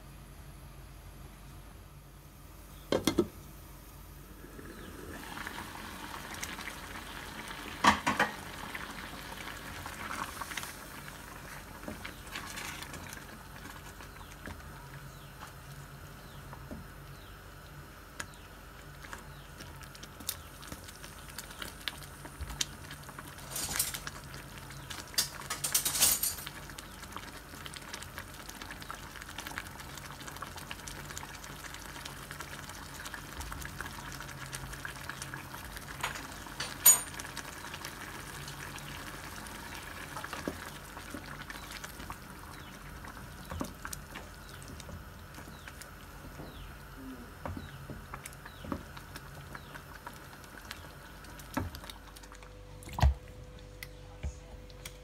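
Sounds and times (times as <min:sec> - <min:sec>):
steady low hum: 0:00.0 - 0:27.5, 0:33.2 - 0:55.0
sauce bubbling and popping: 0:04.4 - 0:25.5, 0:26.6 - 0:46.7, 0:47.4 - 0:53.8.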